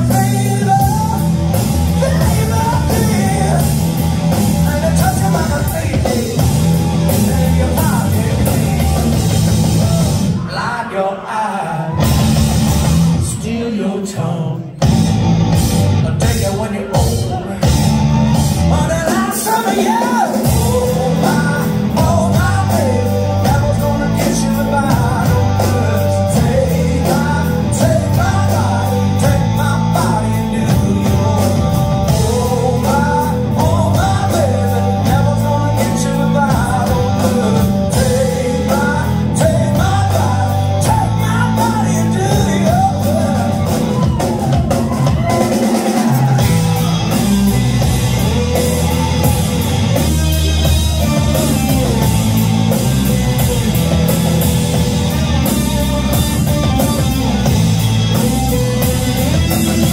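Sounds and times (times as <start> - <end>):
drum kit: 0.0 - 10.6, 11.9 - 13.7, 14.6 - 59.9
bass guitar: 0.0 - 10.8, 11.9 - 59.9
electric guitars: 0.0 - 10.8, 14.2 - 59.9
lead vocal singing: 0.0 - 15.0, 15.9 - 59.9.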